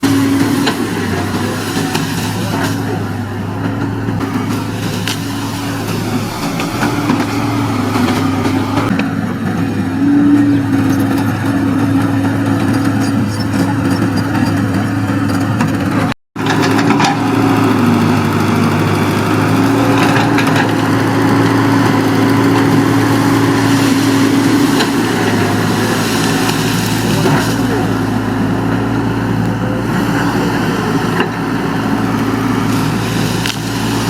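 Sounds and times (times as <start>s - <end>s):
diesel excavator engine running: 0.0s - 34.0s.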